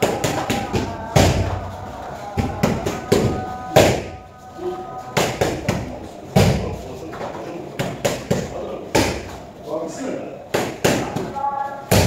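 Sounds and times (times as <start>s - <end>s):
faint music: 0.0s - 12.0s.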